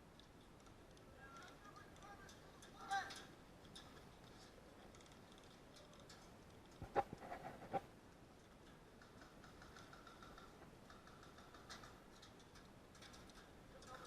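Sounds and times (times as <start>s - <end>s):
faint background noise: 0.0s - 14.0s
sharp clicks and knocks: 0.1s - 14.0s.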